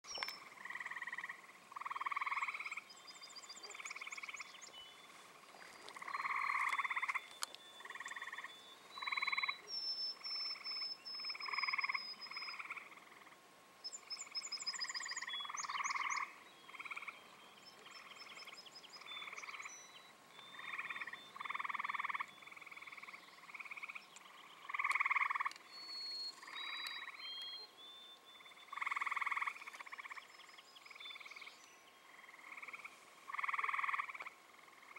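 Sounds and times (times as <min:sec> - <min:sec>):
frogs calling: 0:00.1 - 0:27.7, 0:28.3 - 0:34.9.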